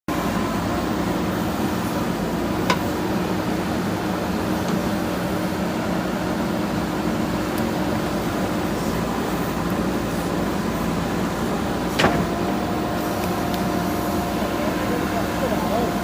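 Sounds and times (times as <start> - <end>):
diesel engine running: 0.1 - 16.0.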